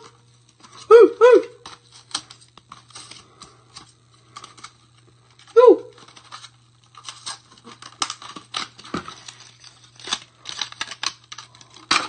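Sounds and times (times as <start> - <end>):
packaging rustling and tearing: 1.6 - 12.0.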